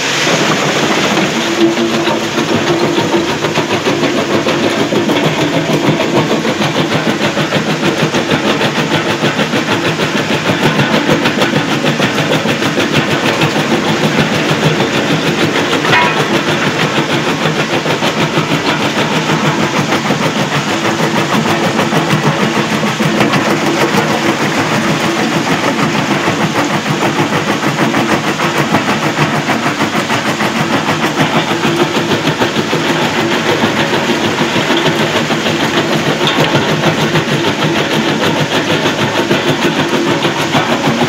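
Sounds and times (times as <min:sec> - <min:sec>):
jaw crusher crushing rock: 0:00.1 - 0:41.0.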